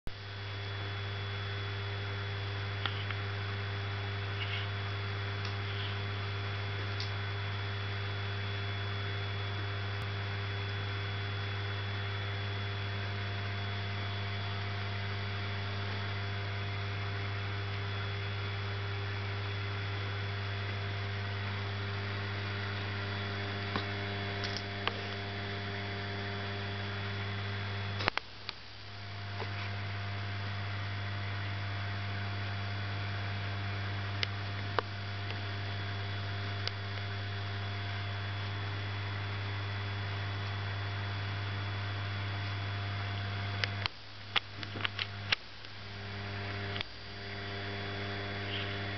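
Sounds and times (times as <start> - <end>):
low electrical mains hum: 0.1 - 48.9.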